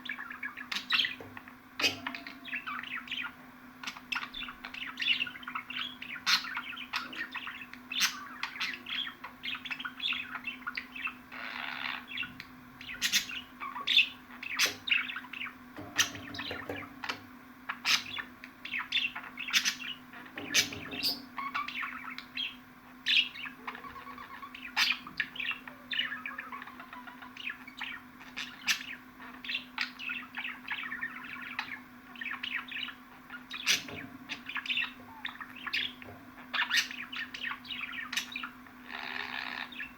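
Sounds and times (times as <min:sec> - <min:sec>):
budgerigars chattering: 0:00.0 - 0:39.9
faint steady hum: 0:00.0 - 0:39.9.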